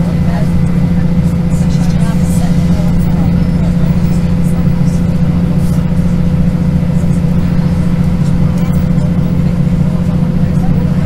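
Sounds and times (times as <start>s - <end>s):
constant whine: 0.0s - 11.0s
diesel train engine drone: 0.0s - 11.0s.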